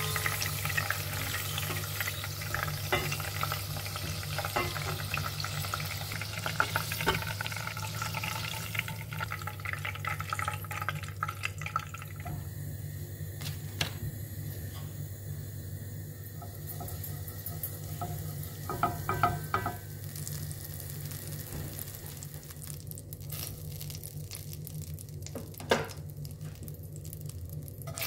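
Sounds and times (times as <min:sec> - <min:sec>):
potato sticks sizzling in oil: 0:00.0 - 0:11.3, 0:16.2 - 0:28.0.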